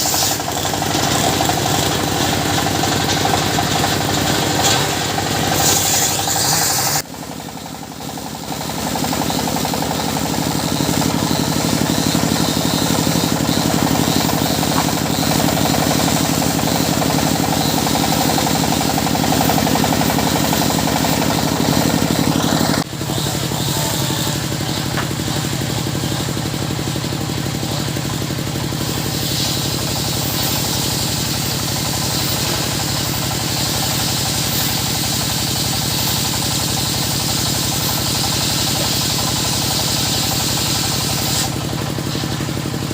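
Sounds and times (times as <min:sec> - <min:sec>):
circular saw running: 0:00.0 - 0:42.9.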